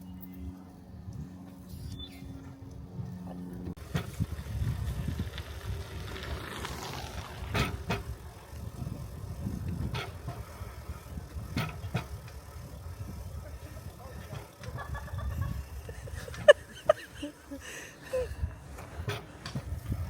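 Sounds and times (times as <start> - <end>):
wheels rumbling on rail track: 0.0 - 20.0.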